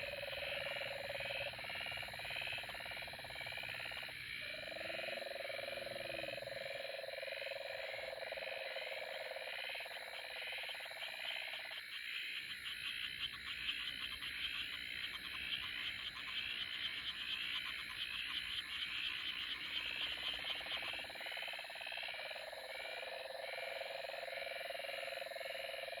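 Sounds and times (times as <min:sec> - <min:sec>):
frogs chirping: 0:00.0 - 0:26.0.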